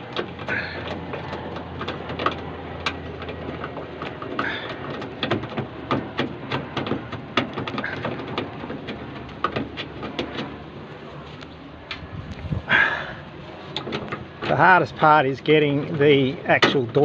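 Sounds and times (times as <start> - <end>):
metal parts clicking and knocking: 0.0 - 12.1, 13.2 - 15.1.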